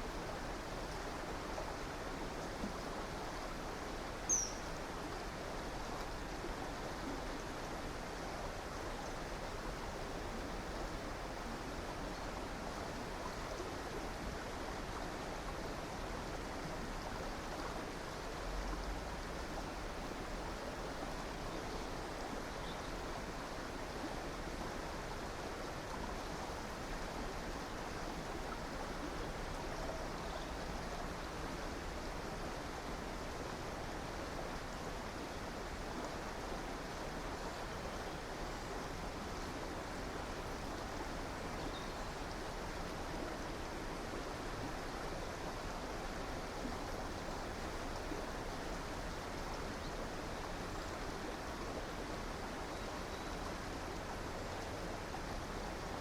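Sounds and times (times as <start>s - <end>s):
river water running over rocks: 0.0s - 56.0s.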